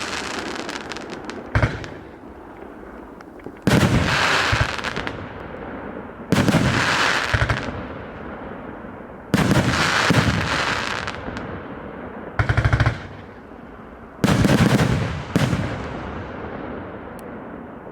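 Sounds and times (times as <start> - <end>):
fireworks bangs in rapid volleys: 0.0 - 8.7, 9.3 - 13.4, 14.2 - 16.9.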